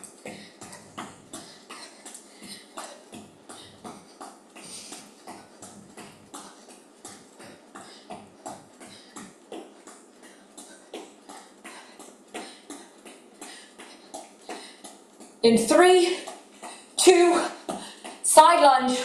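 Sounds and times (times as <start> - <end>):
hard breathing: 0.0 - 15.4, 16.0 - 18.2.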